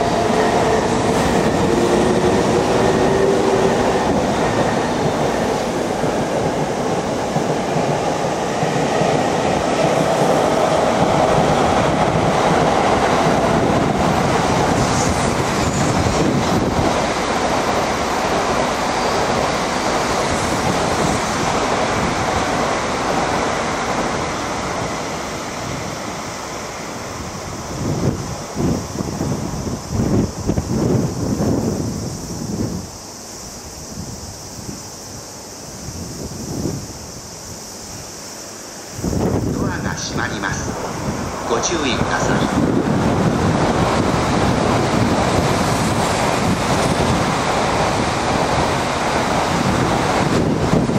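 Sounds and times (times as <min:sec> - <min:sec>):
wind buffeting the microphone: 0:00.0 - 0:33.0, 0:33.6 - 0:38.1, 0:38.9 - 0:50.9
high-speed train rushing past: 0:00.0 - 0:50.9.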